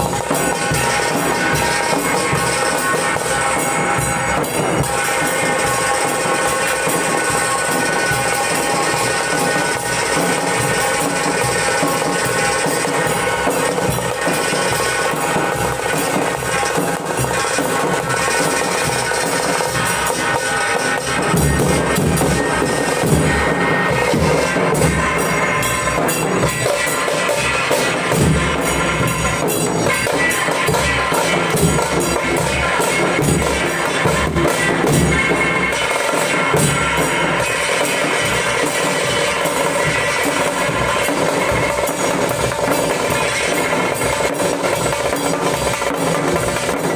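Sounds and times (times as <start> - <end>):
loud drumming: 0.0 - 46.9.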